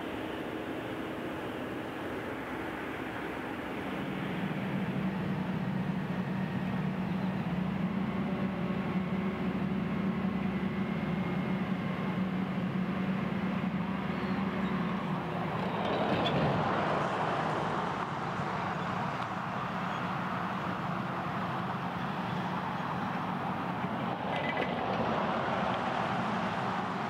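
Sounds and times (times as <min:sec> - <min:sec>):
heavy machinery humming: 0:00.0 - 0:27.0.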